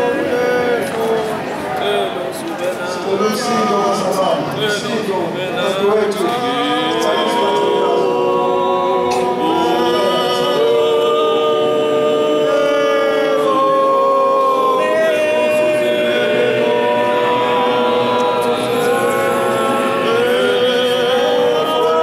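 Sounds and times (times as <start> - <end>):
group singing a hymn a cappella: 0.0 - 1.6, 5.6 - 22.0.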